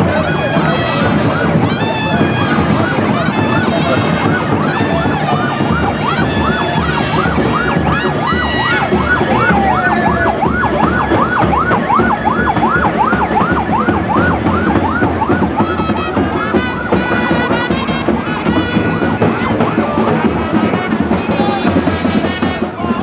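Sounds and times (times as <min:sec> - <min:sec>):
crowd noise: 0:00.0 - 0:23.0
electronic siren yelping: 0:00.6 - 0:20.2.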